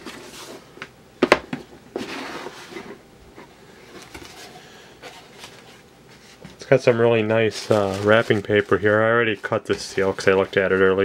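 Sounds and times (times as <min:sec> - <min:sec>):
cardboard rustling scrape: 0:00.0 - 0:00.7, 0:01.9 - 0:11.0.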